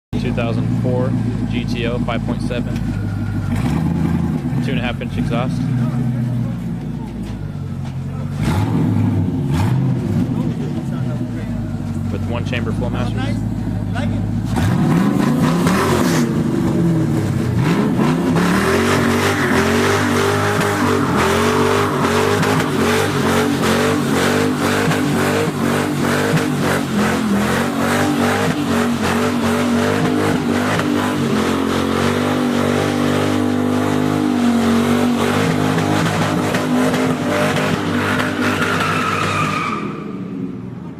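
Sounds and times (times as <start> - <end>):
loud car engine revving: 0.1 - 40.8.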